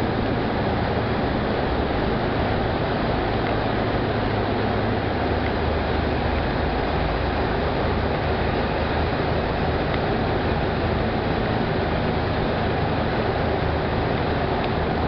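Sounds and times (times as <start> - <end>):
traffic noise in tunnel: 0.0 - 15.0
wind rush: 0.0 - 15.0.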